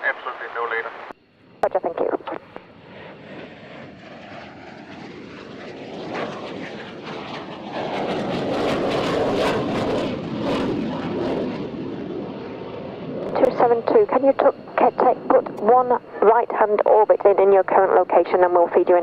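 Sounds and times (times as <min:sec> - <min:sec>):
aircraft engine passing by: 0:00.0 - 0:19.0.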